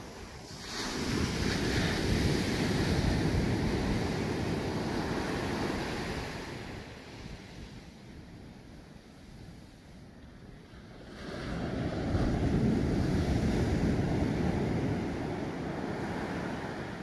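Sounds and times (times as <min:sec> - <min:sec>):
small waves washing on beach: 0:00.0 - 0:17.0.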